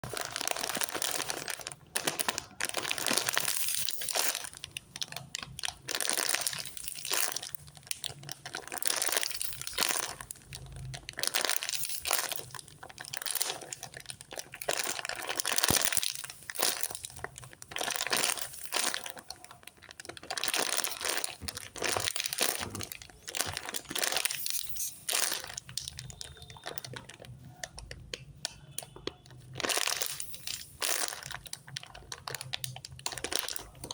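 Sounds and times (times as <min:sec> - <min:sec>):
squishy toy crinkling: 0:00.0 - 0:28.1, 0:28.8 - 0:33.9.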